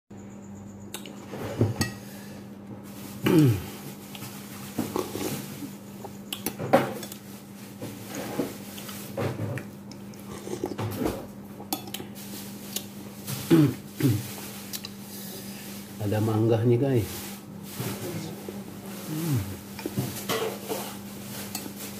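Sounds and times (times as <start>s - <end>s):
steady low hum: 0.1s - 21.9s.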